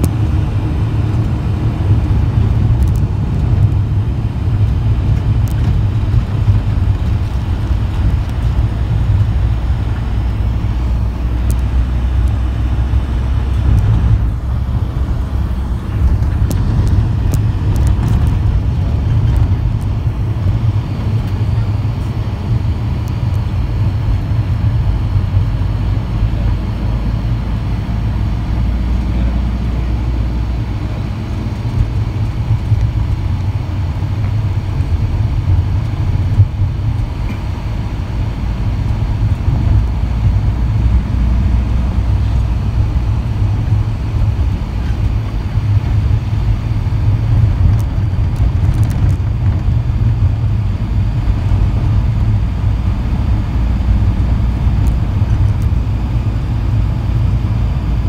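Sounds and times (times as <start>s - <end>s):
vehicle cabin rumble: 0.0s - 58.0s.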